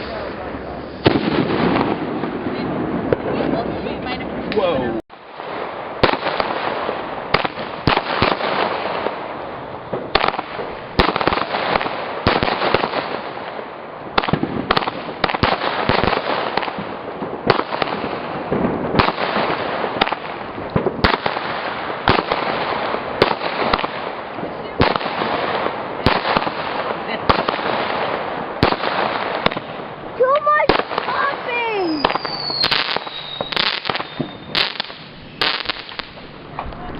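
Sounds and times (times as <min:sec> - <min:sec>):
fireworks bangs: 0:00.0 - 0:36.9
fireworks hiss and crackle: 0:00.0 - 0:36.9.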